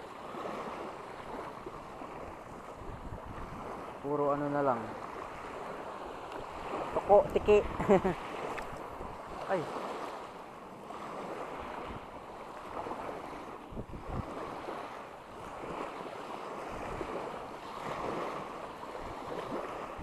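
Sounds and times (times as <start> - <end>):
wind buffeting microphone: 0.0 - 10.2, 10.8 - 20.0
small waves washing onto shore: 0.0 - 20.0.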